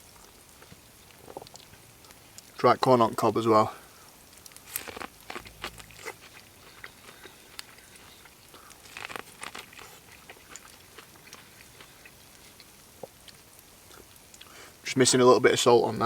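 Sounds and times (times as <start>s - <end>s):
person chewing corn crunchily: 0.0s - 2.6s, 3.7s - 14.8s.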